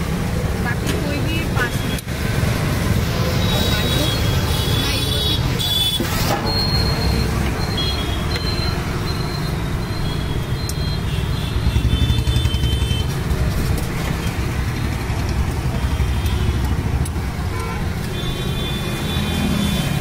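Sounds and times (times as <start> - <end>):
road traffic rumbling: 0.0 - 20.0.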